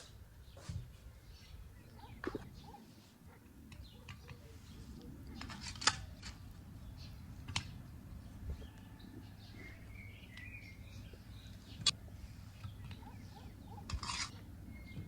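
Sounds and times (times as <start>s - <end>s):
bird chirping: 0.0s - 15.0s
low outdoor background: 0.0s - 15.0s.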